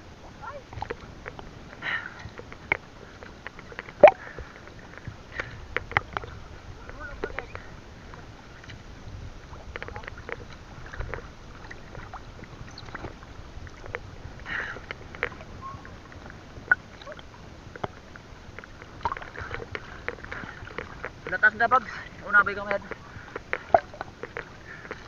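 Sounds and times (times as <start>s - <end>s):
water splashing against boat hull: 0.0s - 25.0s.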